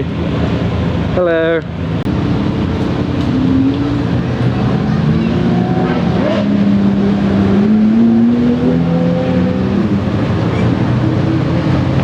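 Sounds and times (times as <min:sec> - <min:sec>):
supercar engines pulling away: 0:00.0 - 0:12.0.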